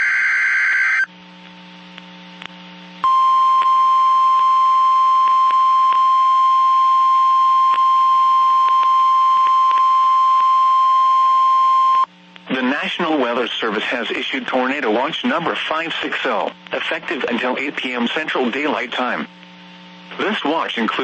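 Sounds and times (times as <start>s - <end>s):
faint receiver hum: 0.0s - 21.0s.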